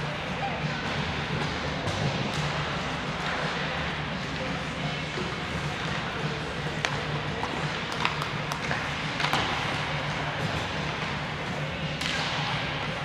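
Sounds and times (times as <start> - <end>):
hockey sticks clacking on puck: 0.7 - 13.0.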